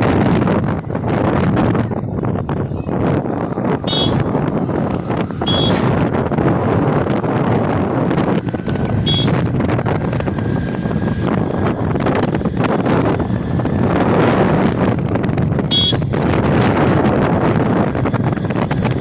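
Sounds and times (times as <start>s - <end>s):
moving vehicle rumble: 0.0s - 19.0s
wind buffeting microphone: 0.0s - 19.0s.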